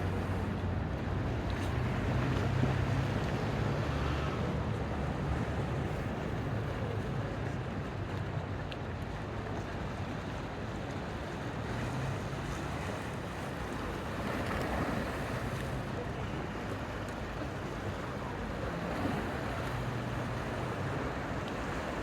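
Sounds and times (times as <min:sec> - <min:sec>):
sea waves washing on beach: 0:00.0 - 0:22.0.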